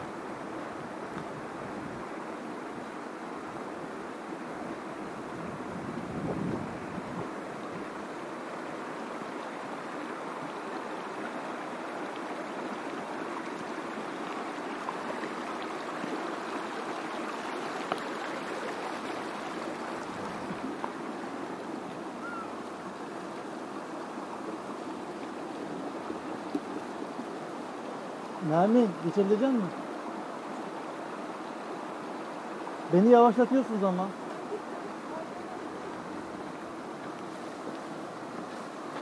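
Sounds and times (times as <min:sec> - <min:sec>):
river flowing over rocks: 0:00.0 - 0:39.0.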